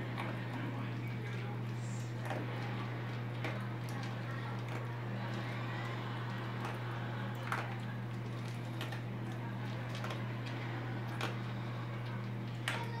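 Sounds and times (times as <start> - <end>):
dogs crunching kibble: 0.0 - 13.0
steady low hum: 0.0 - 13.0.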